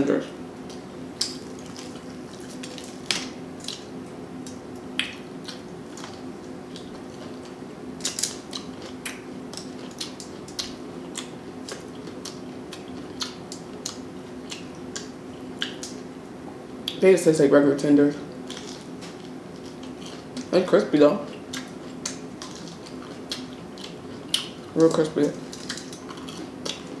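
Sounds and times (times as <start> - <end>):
crunchy chewing: 0.6 - 16.0, 18.2 - 20.5, 21.2 - 27.0.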